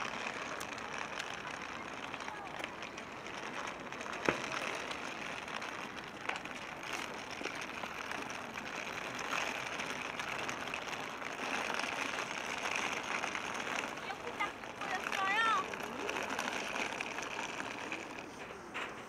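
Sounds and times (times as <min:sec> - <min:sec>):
city background noise: 0:00.0 - 0:19.0.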